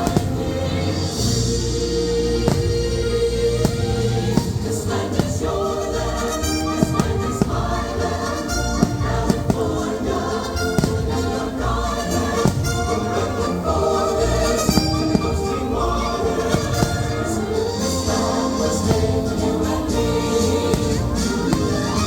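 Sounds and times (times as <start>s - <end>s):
choir singing: 0.0s - 22.0s
firework bangs: 0.0s - 22.0s.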